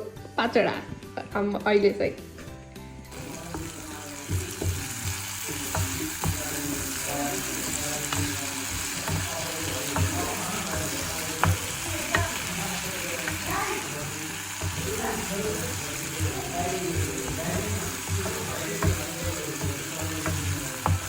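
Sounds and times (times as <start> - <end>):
food sizzling in hot oil: 3.0 - 21.0
utensil knocking pan: 3.1 - 21.0.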